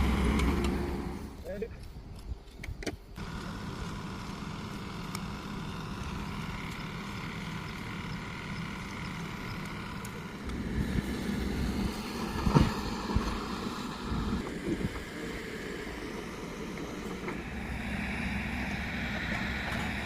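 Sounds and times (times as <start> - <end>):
engine running: 0.0 - 1.6, 2.9 - 20.0.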